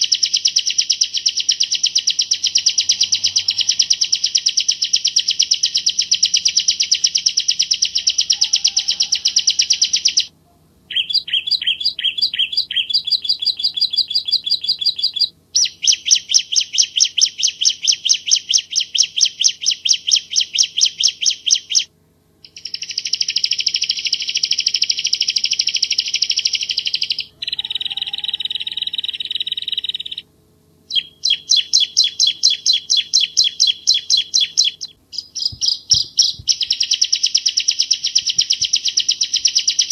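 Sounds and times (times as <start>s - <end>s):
bird chirping rapidly: 0.0s - 10.3s, 10.9s - 30.3s, 30.9s - 39.9s.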